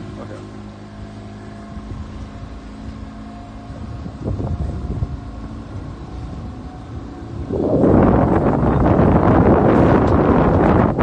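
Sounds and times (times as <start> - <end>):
boat motor running: 0.0 - 11.0
wind buffeting microphone: 1.3 - 11.0.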